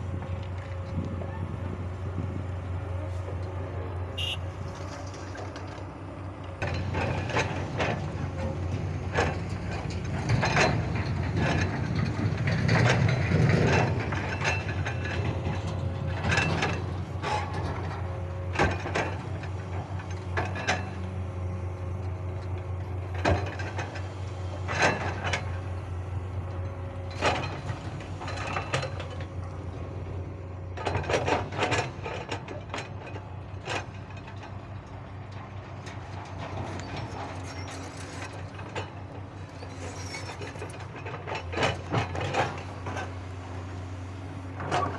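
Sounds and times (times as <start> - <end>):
excavator diesel engine drone: 0.0 - 44.9
metallic clanks and knocks: 6.5 - 44.9.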